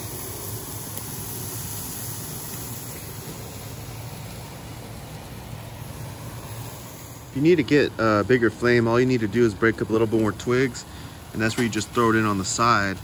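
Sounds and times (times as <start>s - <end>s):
steaks sizzling in a skillet: 0.0s - 13.0s.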